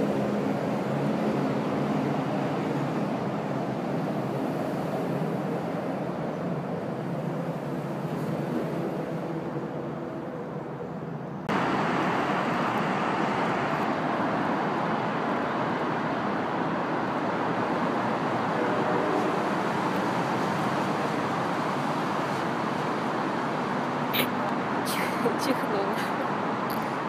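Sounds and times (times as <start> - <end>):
road traffic rushing: 0.0 - 27.0.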